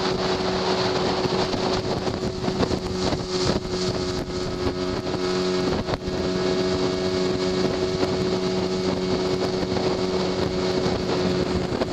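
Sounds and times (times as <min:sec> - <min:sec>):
outboard motor running: 0:00.0 - 0:11.9
water splashing along hull: 0:00.0 - 0:11.9.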